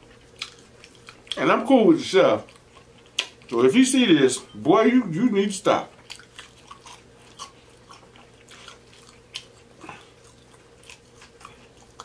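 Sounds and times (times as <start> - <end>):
chewing fried food: 0.0 - 12.0.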